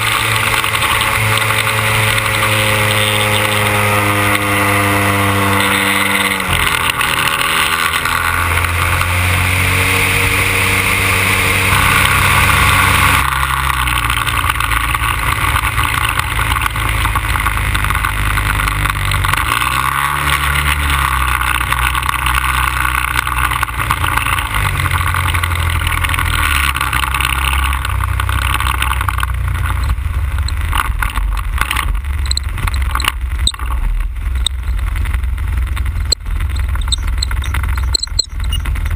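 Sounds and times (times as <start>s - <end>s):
model airplane petrol engine: 0.0s - 38.9s.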